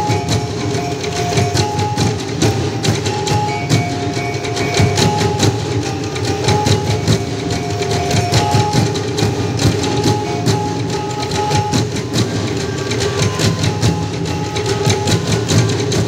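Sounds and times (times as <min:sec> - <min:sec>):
ringing pitched notes: 0:00.0 - 0:16.0
sharp percussion strikes: 0:00.0 - 0:16.0
steady held tone: 0:00.0 - 0:16.0.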